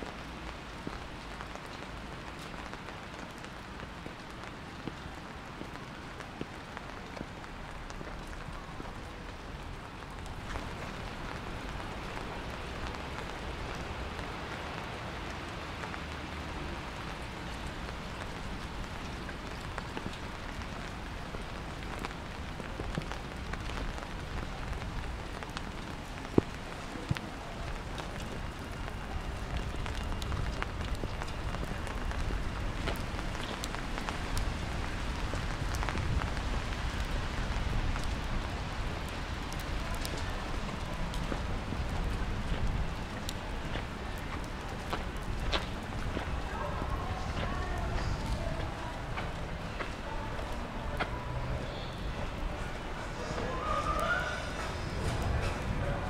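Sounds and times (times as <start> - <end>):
rain on pavement: 0.0 - 56.0.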